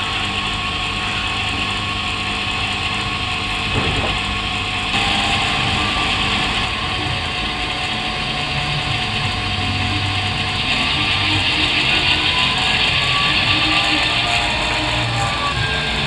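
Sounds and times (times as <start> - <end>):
diesel locomotive hum and hiss: 0.0 - 16.0.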